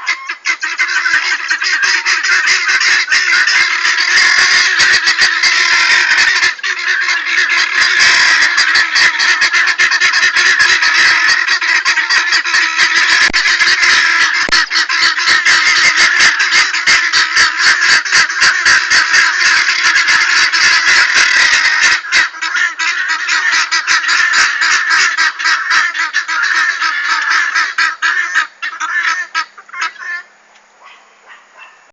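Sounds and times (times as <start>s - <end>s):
guineafowl calling: 0.0s - 31.9s.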